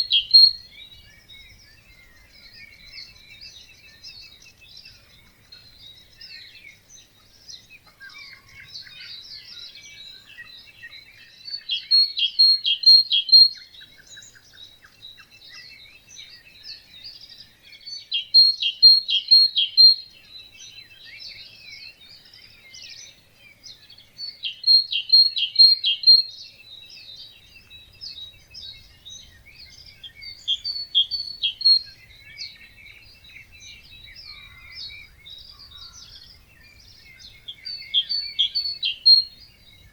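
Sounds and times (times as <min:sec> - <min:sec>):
bird loud short song: 0:00.0 - 0:39.9
songbirds chirping: 0:00.0 - 0:39.9.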